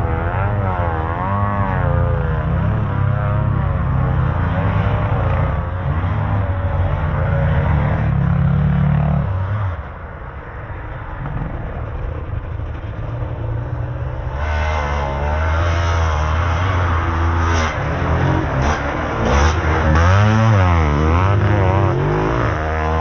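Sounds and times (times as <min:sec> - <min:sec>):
dirt bike engine revving: 0:00.0 - 0:09.4, 0:12.6 - 0:23.0.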